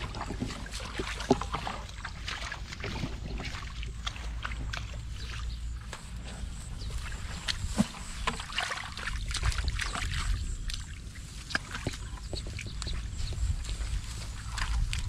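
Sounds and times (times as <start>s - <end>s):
hands squelching in wet mud: 0.0s - 15.0s
wind rumbling on microphone: 0.0s - 15.0s.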